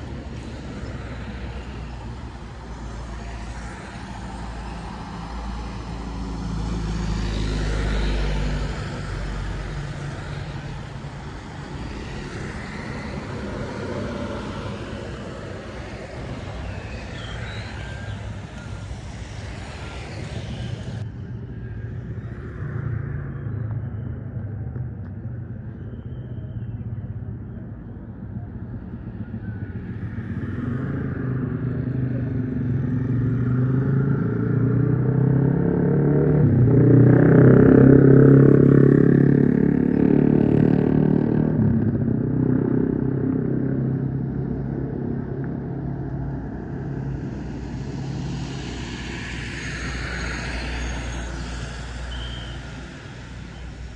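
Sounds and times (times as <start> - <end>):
vehicle engine passing by: 2.8 - 24.0, 29.8 - 53.9.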